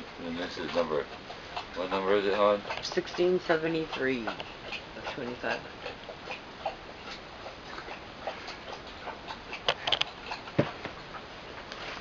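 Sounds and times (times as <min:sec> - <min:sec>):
dog lapping water: 0:00.0 - 0:11.6.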